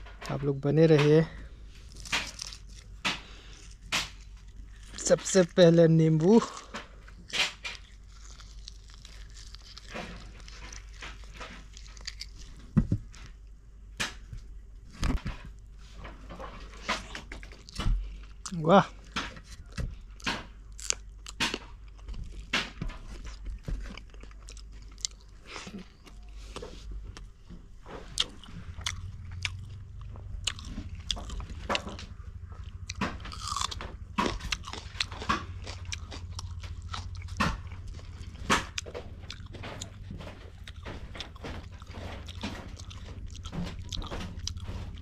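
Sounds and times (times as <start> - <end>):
steady low hum: 0.0 - 45.0
person chewing and crunching: 0.2 - 13.6, 16.4 - 45.0.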